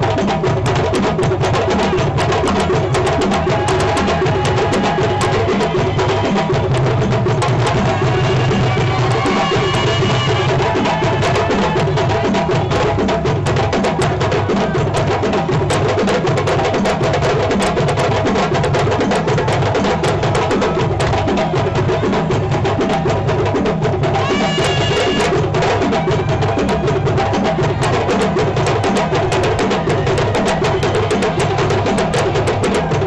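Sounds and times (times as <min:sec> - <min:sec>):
djembe hand drumming: 0:00.0 - 0:33.0.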